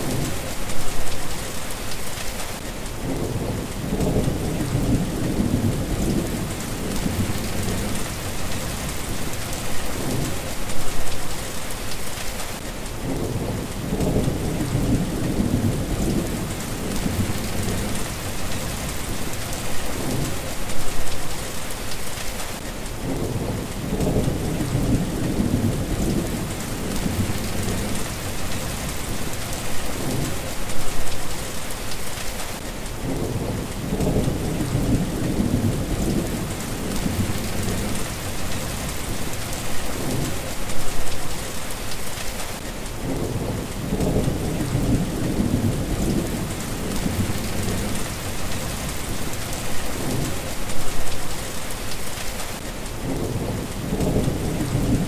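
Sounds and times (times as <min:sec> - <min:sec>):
steady rain: 0:00.0 - 0:55.0
thunder rumbling: 0:03.0 - 0:11.4, 0:13.0 - 0:21.4, 0:23.0 - 0:31.4, 0:33.0 - 0:41.2, 0:43.0 - 0:52.3, 0:53.0 - 0:55.0.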